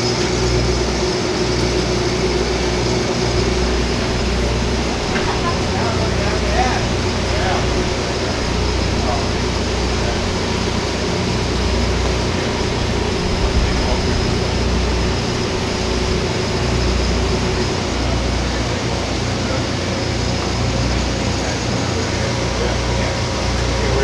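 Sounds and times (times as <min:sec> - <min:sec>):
low rumble and hum: 0:00.0 - 0:24.0
murmur of voices: 0:01.9 - 0:24.0.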